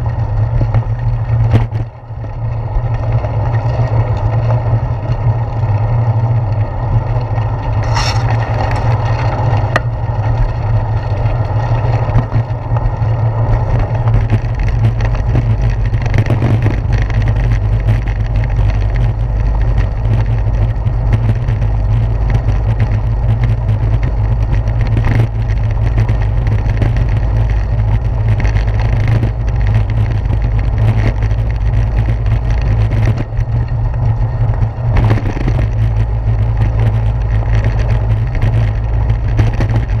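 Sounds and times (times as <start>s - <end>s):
bicycle on brick pavement: 0.0s - 40.0s.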